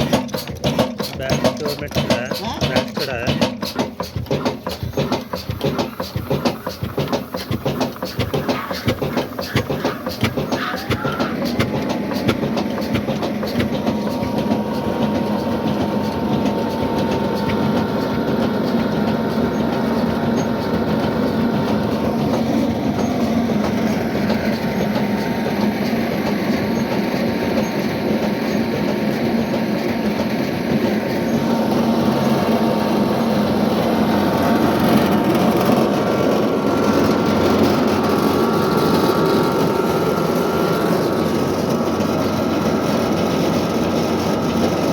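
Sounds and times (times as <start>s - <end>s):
diesel engine clattering: 0.0s - 44.9s.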